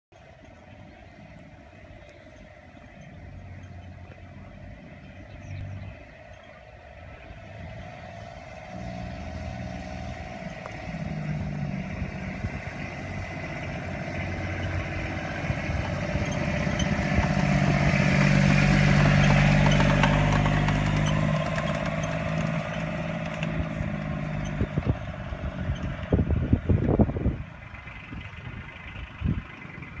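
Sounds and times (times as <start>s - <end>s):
vehicle engine driving past: 0.2s - 30.0s.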